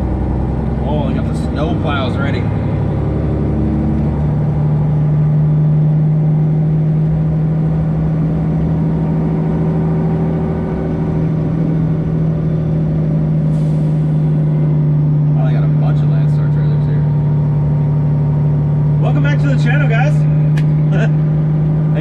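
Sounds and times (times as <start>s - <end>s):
truck diesel engine droning: 0.0s - 22.0s.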